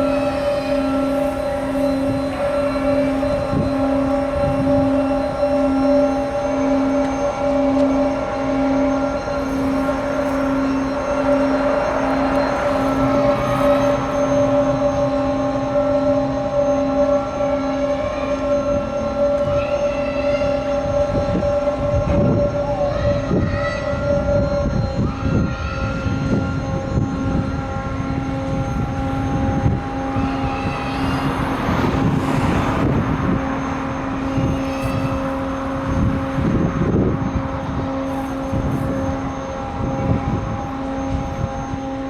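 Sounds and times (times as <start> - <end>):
ship engines rumbling: 0.0 - 42.0.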